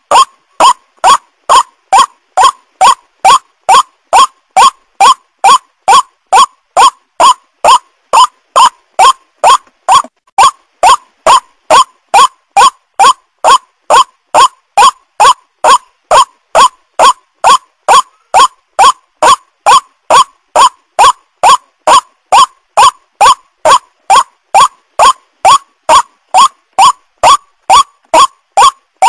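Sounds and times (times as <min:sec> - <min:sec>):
waterhen harsh call: 0:00.1 - 0:28.8.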